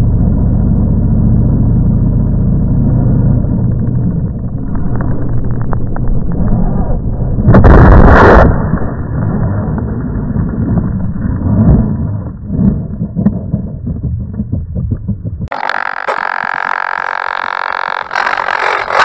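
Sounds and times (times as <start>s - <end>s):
low rumbling: 0.0s - 19.0s.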